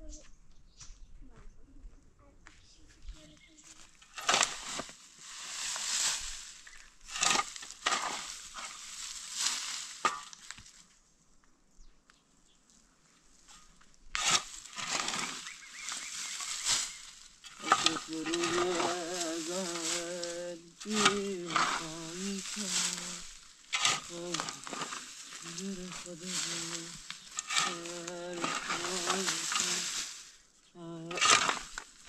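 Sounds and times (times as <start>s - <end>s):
shovel scraping stony dirt: 3.7s - 10.8s, 13.4s - 32.0s.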